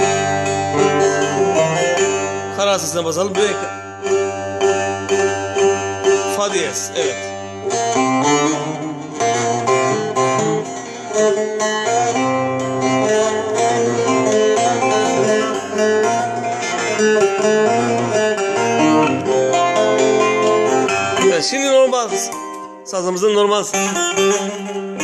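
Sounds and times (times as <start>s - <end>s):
long-necked lute plucked notes: 0.0s - 25.0s.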